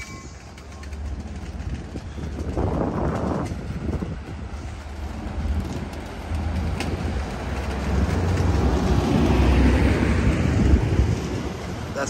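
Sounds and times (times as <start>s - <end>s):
rail click: 0.0s - 9.8s
train wheels rumbling on rails: 0.0s - 12.0s.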